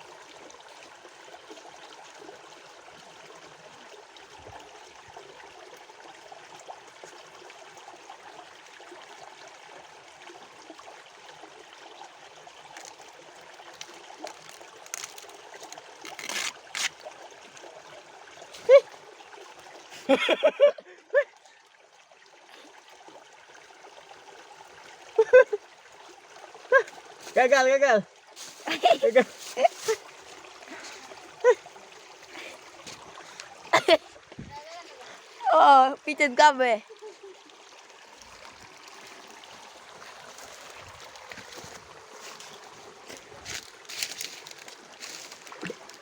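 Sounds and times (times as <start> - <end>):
stream water trickling: 0.0 - 46.0.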